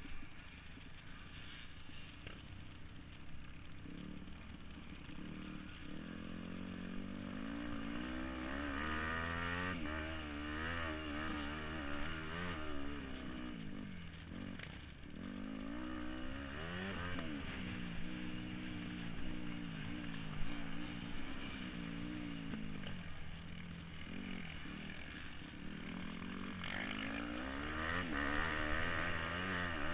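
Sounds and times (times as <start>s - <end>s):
motocross bike engine revving: 3.2s - 29.9s.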